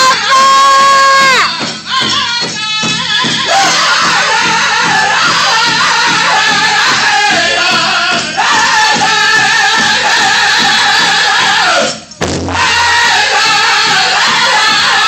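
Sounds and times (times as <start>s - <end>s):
steady drum beat: 0.0s - 15.0s
group singing in unison: 1.2s - 15.0s.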